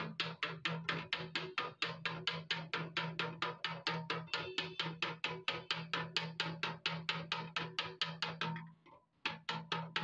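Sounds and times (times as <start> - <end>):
hammer tapping on sheet steel: 0.0 - 10.0.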